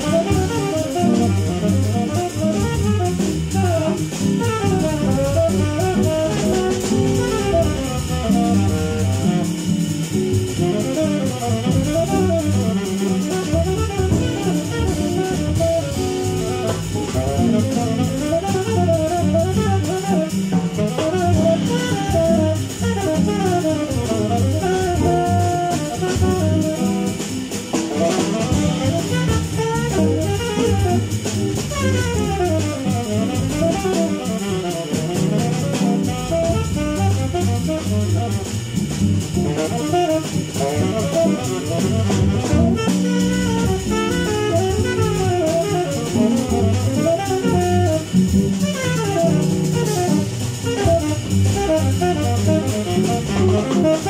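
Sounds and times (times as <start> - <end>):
jazz quartet playing: 0.0 - 54.0
saxophone runs: 0.0 - 54.0.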